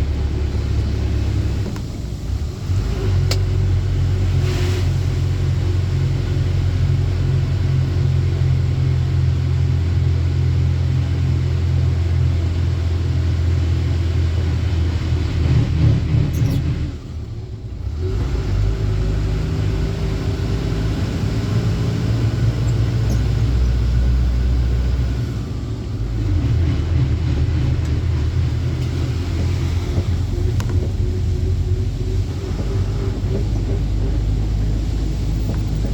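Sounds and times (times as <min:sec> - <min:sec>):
truck engine rumbling: 0:00.0 - 0:35.9.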